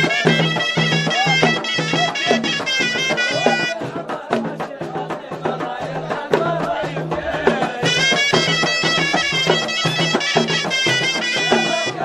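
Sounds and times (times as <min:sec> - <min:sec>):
reedy shawm melody: 0:00.0 - 0:04.7, 0:05.5 - 0:12.0
drum beats: 0:00.0 - 0:12.0.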